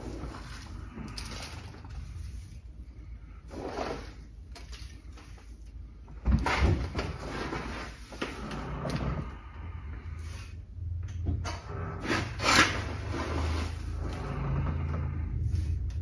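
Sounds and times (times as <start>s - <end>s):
scraping and grainy rustling of soil: 0.0s - 10.6s, 12.1s - 16.0s.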